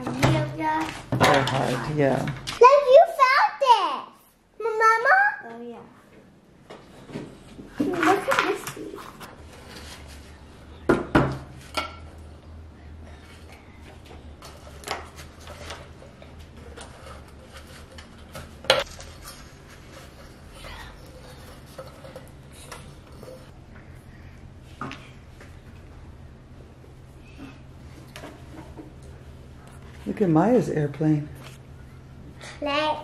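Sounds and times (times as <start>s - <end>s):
low steady hum: 5.5s - 33.0s.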